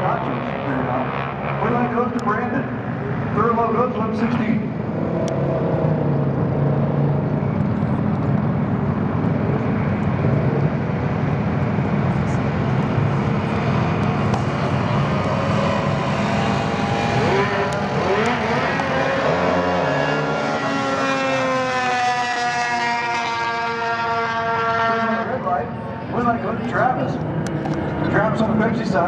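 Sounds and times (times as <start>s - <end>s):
quad engine running and revving: 3.4s - 29.0s.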